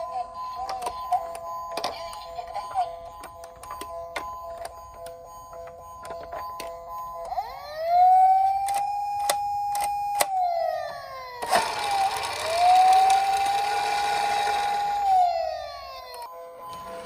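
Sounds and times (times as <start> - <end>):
toy siren wailing: 0.0 - 17.0.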